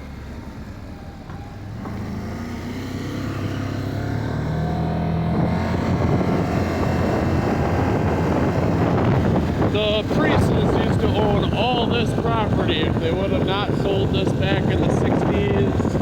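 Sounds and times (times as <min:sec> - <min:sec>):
vehicle engine accelerating: 0:00.0 - 0:16.0.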